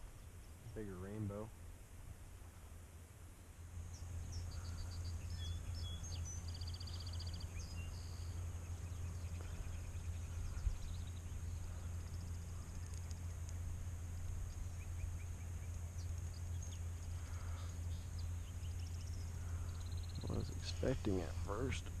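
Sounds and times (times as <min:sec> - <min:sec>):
small birds chirping: 0:00.0 - 0:01.6, 0:03.3 - 0:22.0
steady low rumble: 0:00.0 - 0:22.0.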